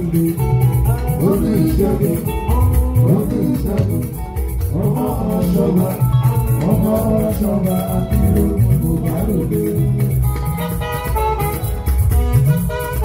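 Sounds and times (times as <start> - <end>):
man singing into a microphone: 0.0 - 10.5
live band music: 0.0 - 13.0
shaker rhythm: 0.0 - 13.0.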